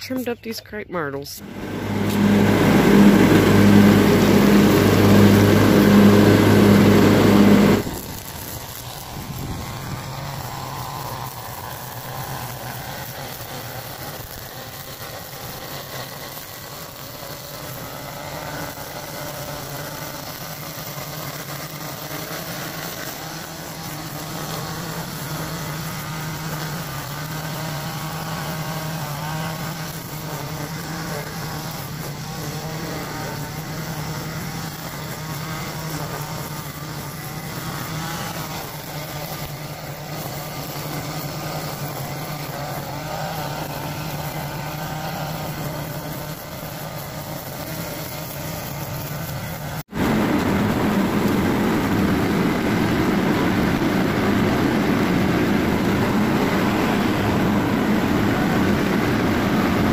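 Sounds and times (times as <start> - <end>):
string trimmer engine running: 1.4 - 59.9.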